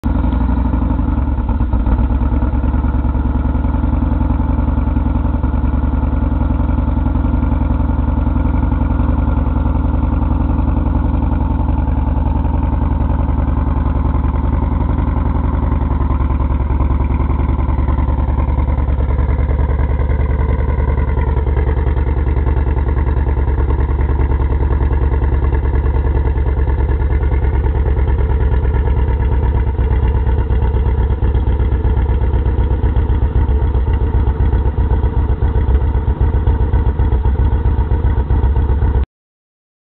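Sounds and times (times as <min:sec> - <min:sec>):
motorcycle engine idling: 0:00.0 - 0:39.1.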